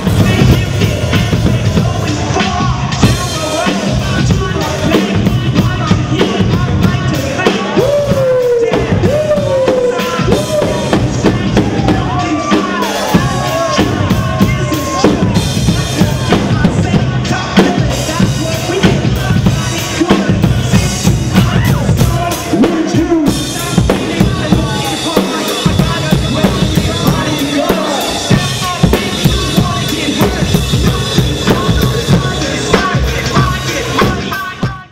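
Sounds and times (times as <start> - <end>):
drum kit played fast: 0.0 - 34.9.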